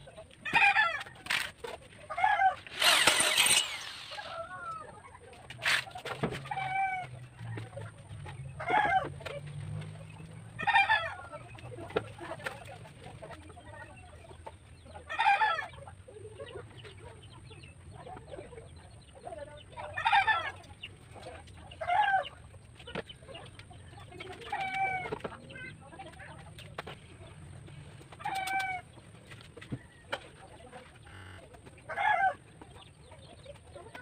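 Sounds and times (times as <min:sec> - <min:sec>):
chickens calling: 0:00.0 - 0:26.1, 0:28.0 - 0:34.0.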